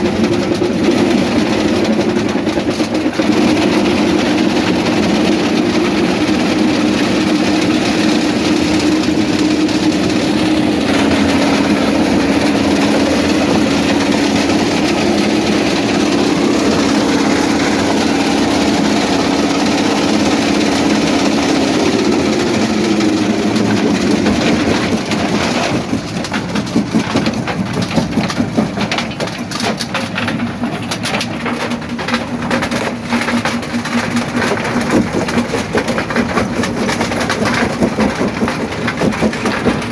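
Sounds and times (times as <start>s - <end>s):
rock crusher humming and grinding: 0.0s - 39.9s.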